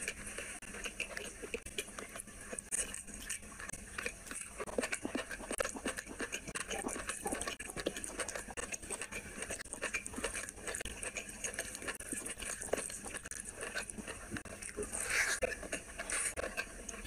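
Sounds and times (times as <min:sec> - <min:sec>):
fingers squishing rice and curry: 0:00.0 - 0:17.0
wet chewing and lip smacks: 0:00.0 - 0:17.0.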